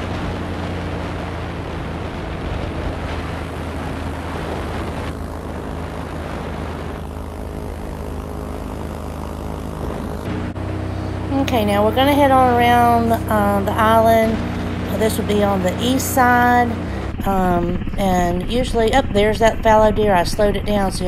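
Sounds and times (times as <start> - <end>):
airboat engine and propeller drone: 0.0 - 21.0.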